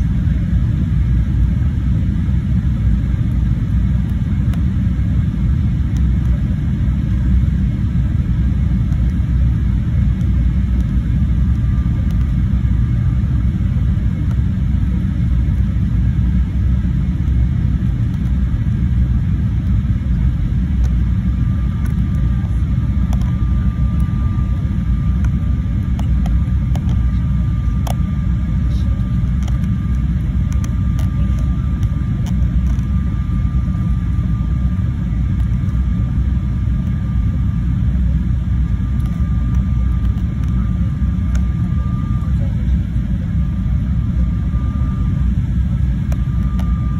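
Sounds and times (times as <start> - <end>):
faint high whine: 0.0 - 46.9
jet engine rumble and rushing air: 0.0 - 46.9.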